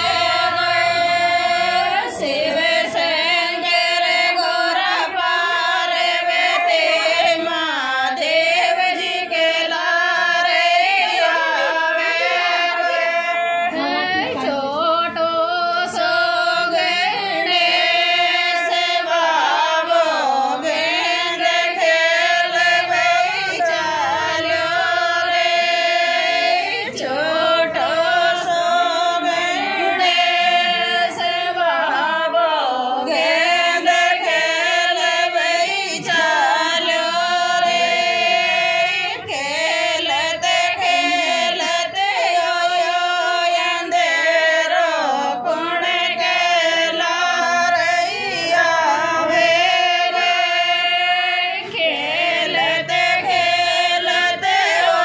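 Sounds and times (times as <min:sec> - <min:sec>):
woman singing: 0:00.0 - 0:55.0.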